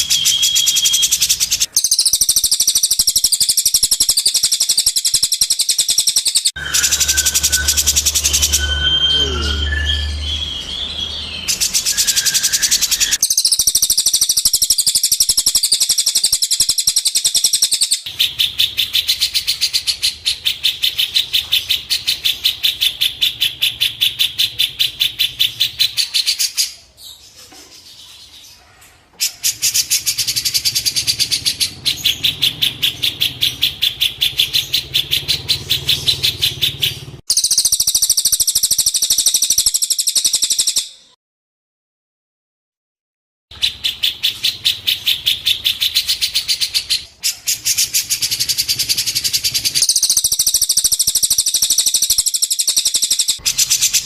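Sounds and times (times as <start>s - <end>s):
songbird repeated sharp notes: 0.0s - 26.8s, 29.3s - 41.1s, 43.5s - 54.0s.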